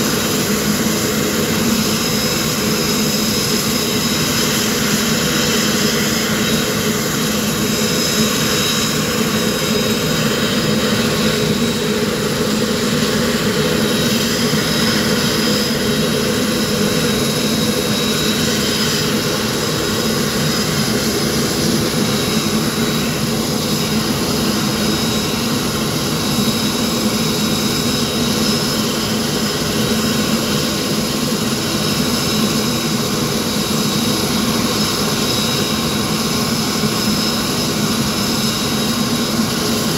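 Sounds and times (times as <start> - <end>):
high turbine whine: 0.0 - 39.9
turboprop engine drone: 0.0 - 39.9.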